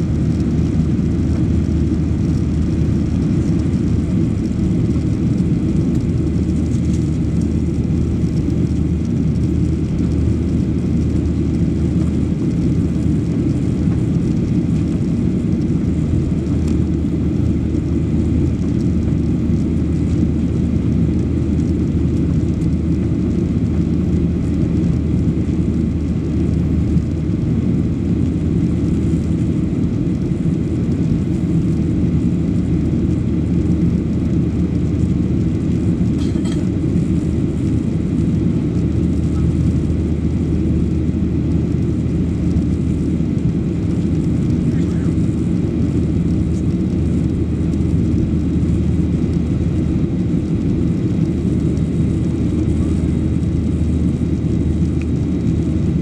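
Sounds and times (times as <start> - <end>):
airplane cabin engine noise: 0.0 - 56.0.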